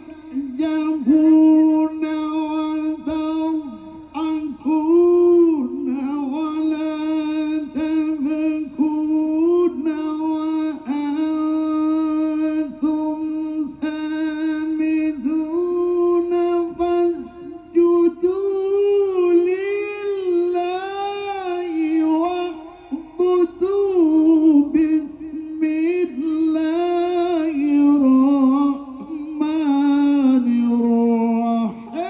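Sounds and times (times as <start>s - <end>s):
man reciting melodically over pa: 0.0s - 32.0s.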